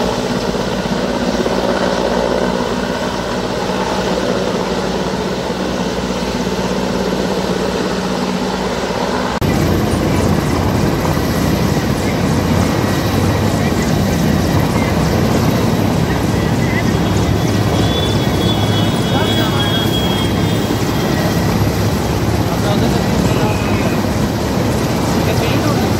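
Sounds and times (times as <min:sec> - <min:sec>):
helicopter hovering drone: 0:00.0 - 0:25.9.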